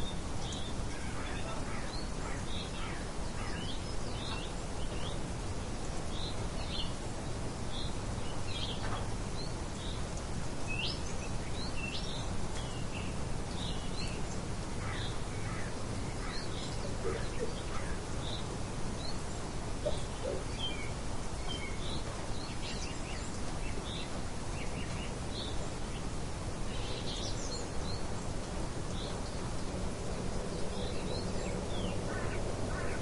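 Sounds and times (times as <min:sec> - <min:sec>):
light wind: 0:00.0 - 0:33.0
small birds chirping: 0:00.0 - 0:33.0.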